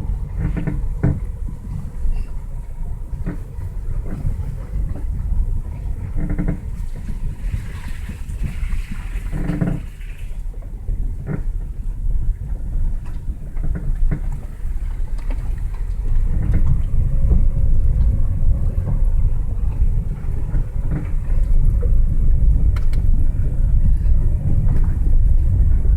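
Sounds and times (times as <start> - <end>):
car suspension creaking: 0.0 - 25.9
road and tyre rumble: 0.0 - 25.9
suspension knocks: 0.0 - 25.9.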